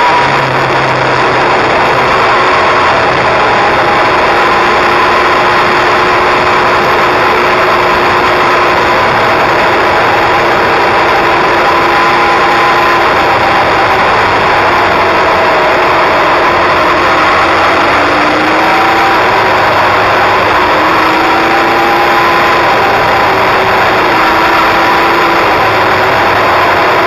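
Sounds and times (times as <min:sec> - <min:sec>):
motorcycle engine cruising: 0:00.0 - 0:27.0
wind and road noise: 0:00.0 - 0:27.0.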